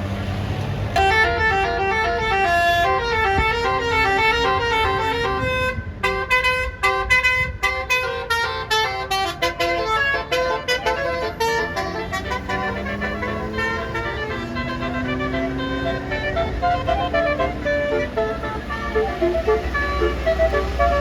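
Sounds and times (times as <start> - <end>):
musical air horn melody: 1.0 - 21.0.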